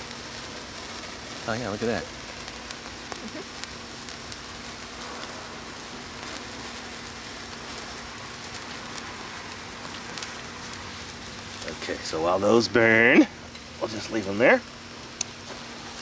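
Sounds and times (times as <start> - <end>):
sparklers fizzing and crackling: 0.0 - 16.0.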